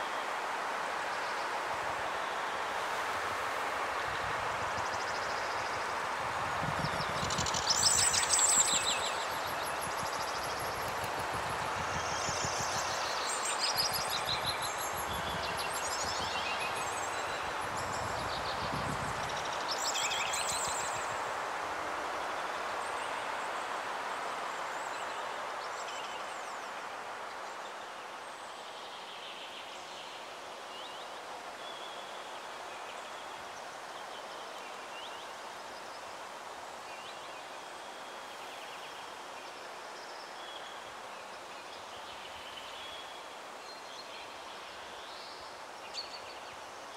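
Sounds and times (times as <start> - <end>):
wind through trees: 0.0 - 46.9.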